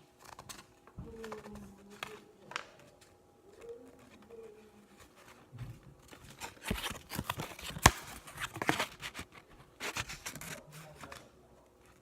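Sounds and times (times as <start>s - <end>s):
trading cards rustling and clicking: 0.0s - 12.0s.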